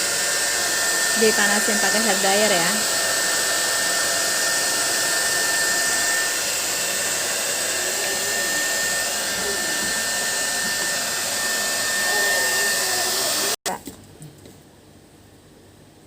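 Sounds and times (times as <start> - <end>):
hair dryer running: 0.0 - 13.6.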